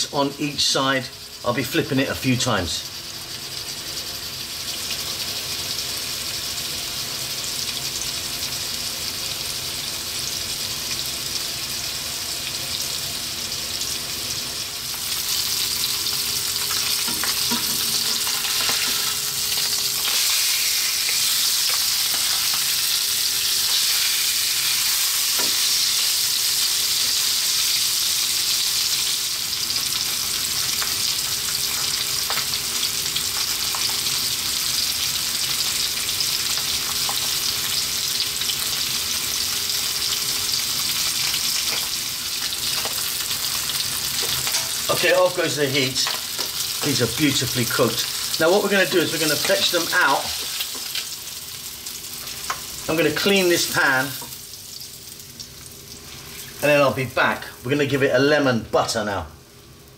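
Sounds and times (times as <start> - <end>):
fish sizzling in a frying pan: 0.0 - 58.0, 59.4 - 59.9.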